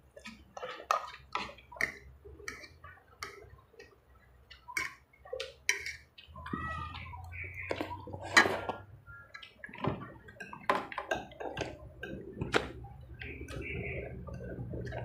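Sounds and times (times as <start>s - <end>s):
slurping and chewing: 0.0s - 15.0s.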